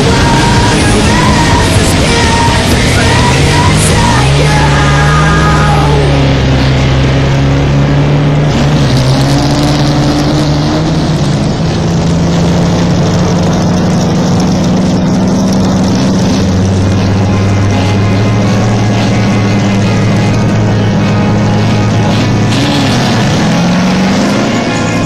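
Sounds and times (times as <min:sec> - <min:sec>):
engine running hard: 0:00.0 - 0:25.0
lower engine tone: 0:00.0 - 0:25.0.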